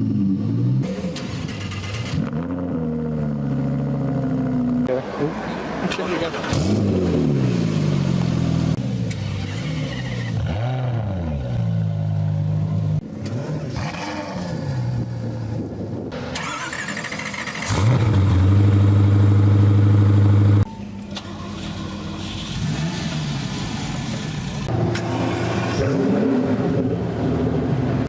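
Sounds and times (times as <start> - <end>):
car engines starting and revving: 0.0 - 28.0.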